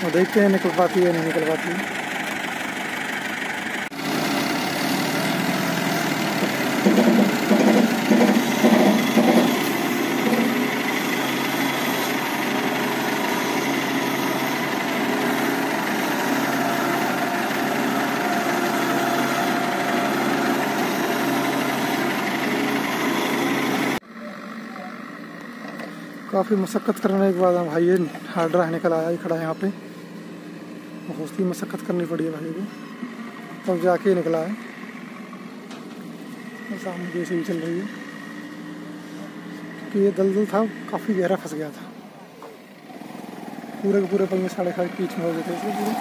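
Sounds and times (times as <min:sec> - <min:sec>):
diesel crane engines rumbling: 0:00.0 - 0:46.0.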